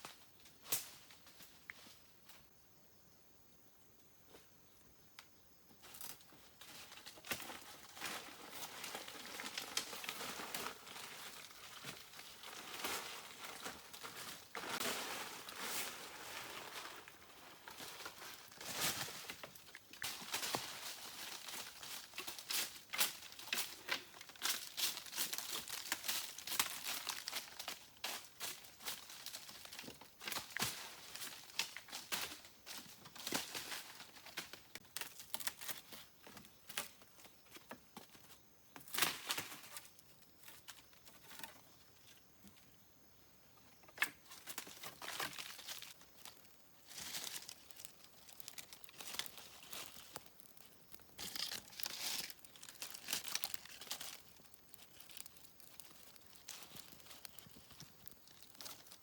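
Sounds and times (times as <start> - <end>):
crinkling crackling rustle with snaps: 5.8 - 42.6, 43.8 - 59.0.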